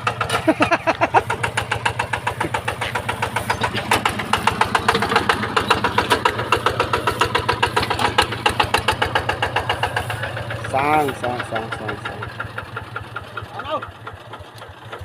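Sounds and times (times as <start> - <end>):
engine chugging steadily: 0.0 - 15.0.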